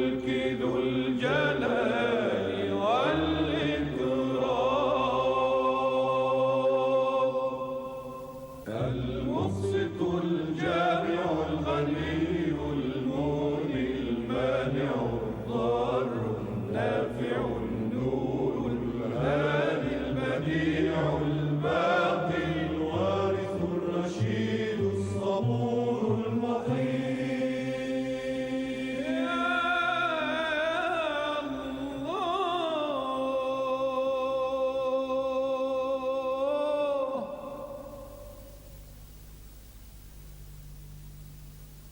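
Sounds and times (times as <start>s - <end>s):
religious chant singing: 0.0s - 39.4s.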